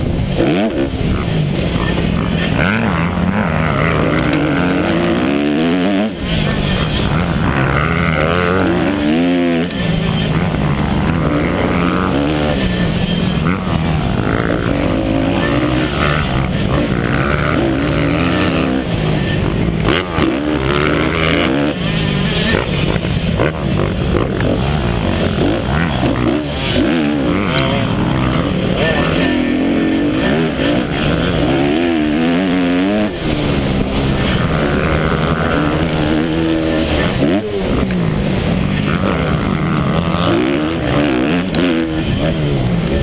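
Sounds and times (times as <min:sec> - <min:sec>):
motocross bike engine revving: 0:00.0 - 0:43.0
wind and track noise: 0:00.0 - 0:43.0.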